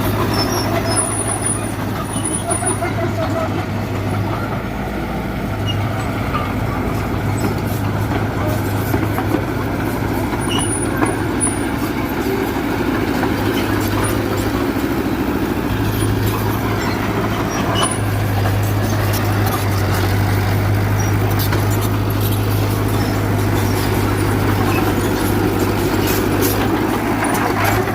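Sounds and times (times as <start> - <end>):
bulldozer diesel engine running: 0.0 - 27.9.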